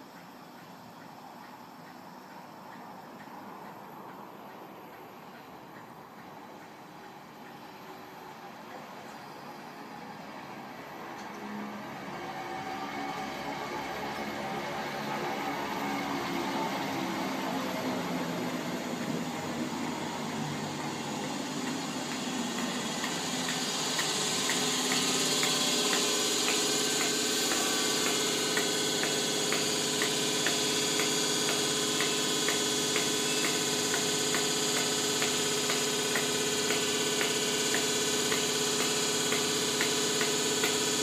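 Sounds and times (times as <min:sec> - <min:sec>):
electric train rolling to a stop: 0:00.0 - 0:41.0
train equipment humming: 0:00.0 - 0:41.0.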